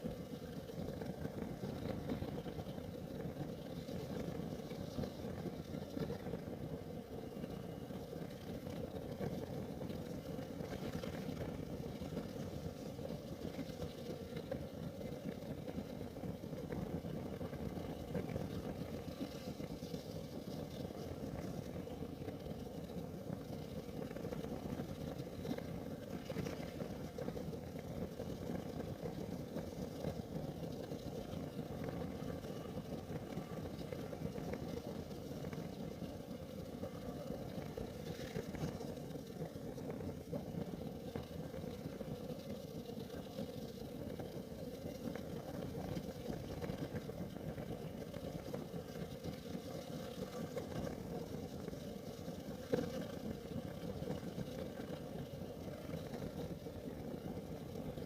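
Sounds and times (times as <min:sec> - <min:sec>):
heater flame rushing: 0:00.0 - 0:58.0.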